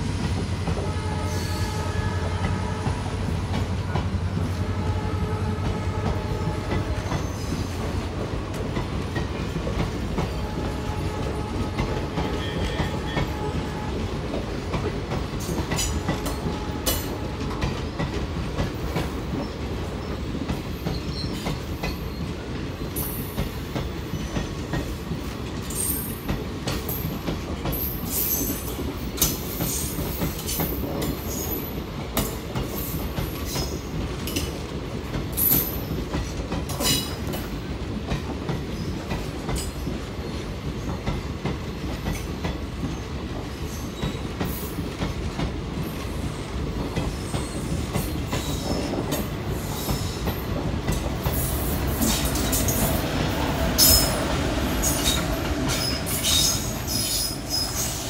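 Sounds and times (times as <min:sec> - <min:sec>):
loud train clanks: 0:00.0 - 0:58.0
train wheels clattering over joints: 0:05.7 - 0:58.0.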